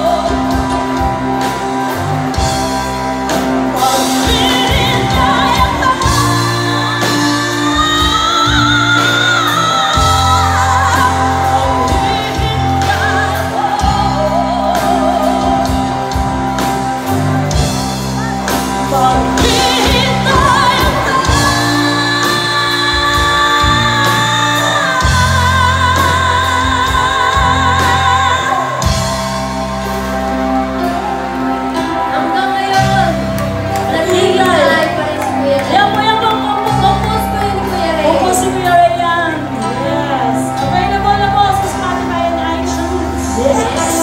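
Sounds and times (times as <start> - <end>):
female lead vocals: 0.0 - 44.0
pop-rock band playing: 0.0 - 44.0
steady bass line: 0.0 - 44.0.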